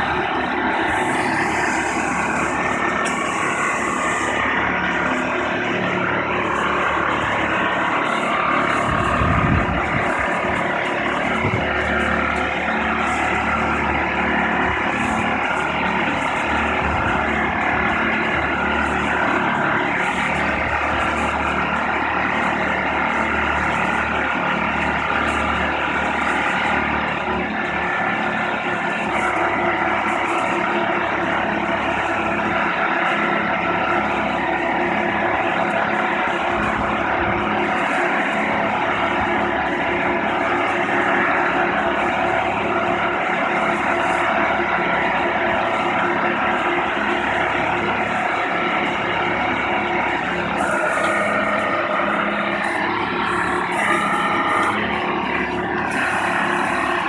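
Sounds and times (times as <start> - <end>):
boat hoist engine running: 0.0 - 57.0.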